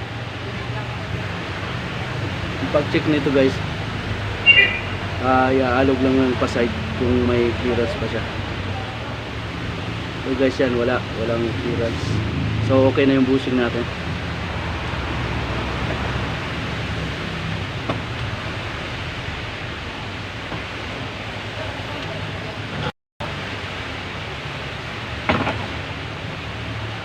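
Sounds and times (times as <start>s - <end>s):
hiss-like background noise: 0.0s - 27.0s.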